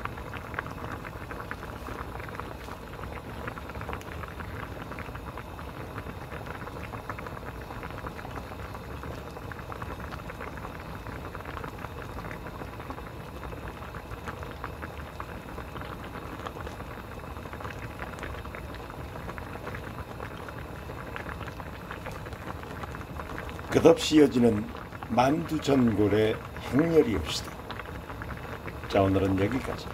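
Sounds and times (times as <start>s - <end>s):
stew boiling and bubbling: 0.0s - 29.9s.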